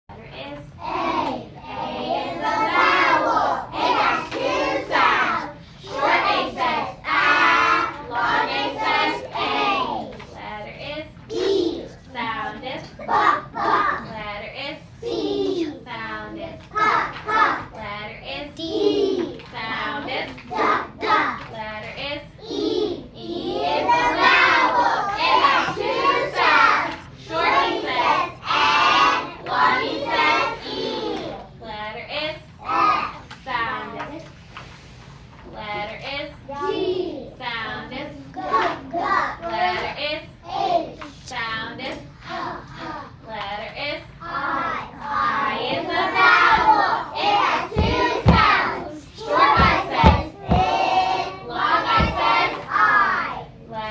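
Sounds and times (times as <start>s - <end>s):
child chanting letter sounds: 0.2s - 34.4s, 35.4s - 53.9s.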